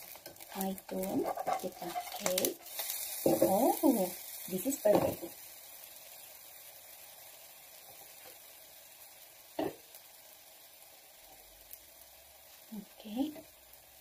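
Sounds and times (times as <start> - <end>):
pancake sizzling in a pan: 0.0 - 14.0.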